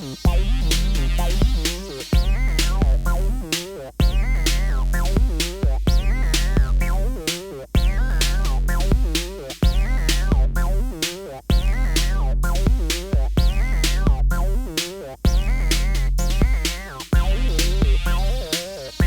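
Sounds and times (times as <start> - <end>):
drum-machine beat: 0.0 - 19.0
deep held bass: 0.3 - 18.5.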